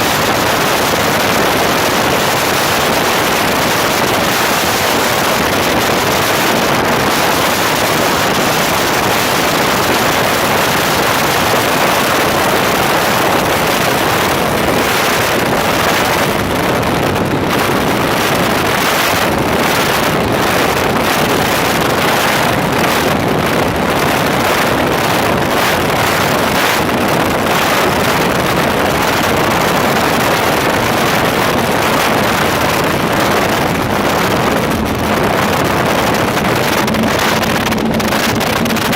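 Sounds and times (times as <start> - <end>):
speedboat engine: 0.0 - 38.9
wind buffeting microphone: 0.0 - 38.9.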